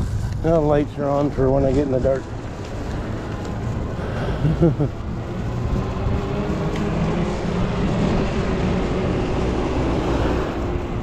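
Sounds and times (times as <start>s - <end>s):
wind on microphone: 0.0s - 4.6s, 5.3s - 11.0s.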